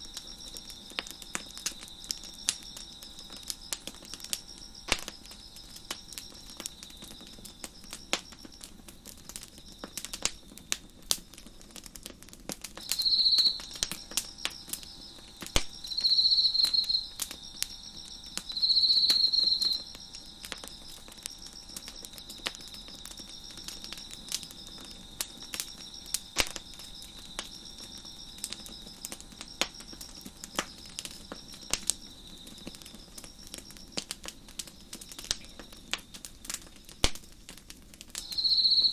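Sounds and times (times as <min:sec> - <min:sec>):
insect trilling: 0:00.0 - 0:12.0, 0:12.8 - 0:37.1, 0:38.2 - 0:38.9
crickets chirping: 0:00.0 - 0:38.9
wood fire crackling: 0:00.0 - 0:38.9.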